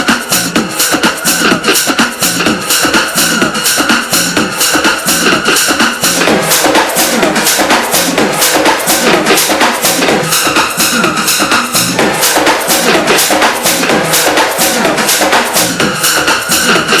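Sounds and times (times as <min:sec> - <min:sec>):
house dance music with drum beat: 0:00.0 - 0:17.0.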